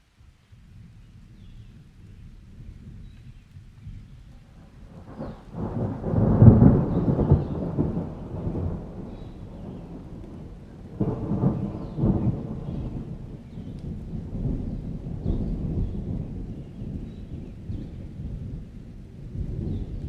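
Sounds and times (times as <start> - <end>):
steady rain: 0.0 - 20.0
thunder rumbling: 0.7 - 20.0.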